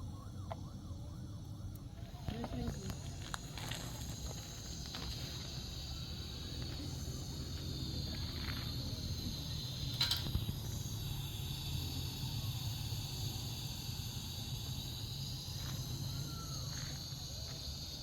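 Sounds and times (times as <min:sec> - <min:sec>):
high-pitched hiss: 0:01.8 - 0:18.0.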